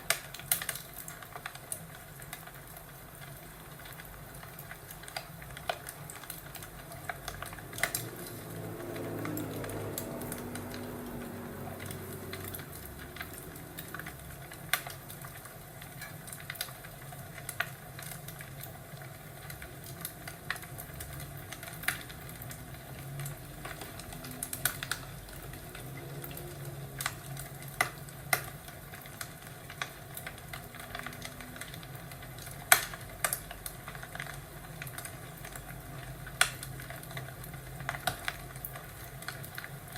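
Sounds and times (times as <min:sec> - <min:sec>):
wood fire popping and snapping: 0:00.0 - 0:39.9.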